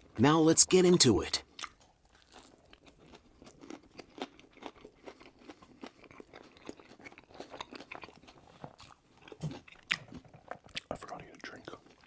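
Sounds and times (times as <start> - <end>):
crunchy chewing: 1.4 - 12.0.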